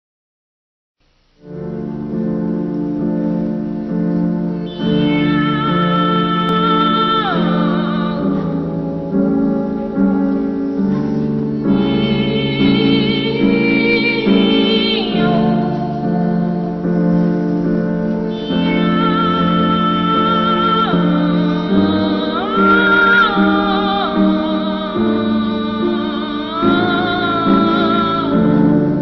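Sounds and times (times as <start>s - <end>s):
sustained instrumental accompaniment: 1.4s - 29.0s.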